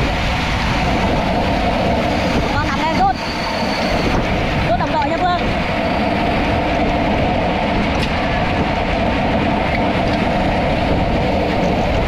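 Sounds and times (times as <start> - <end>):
road noise: 0.0 - 12.0
wind rumble: 0.0 - 12.0.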